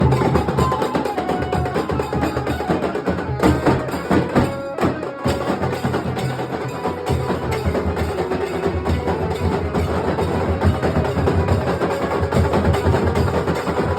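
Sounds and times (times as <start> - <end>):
fast drumming: 0.0 - 13.9.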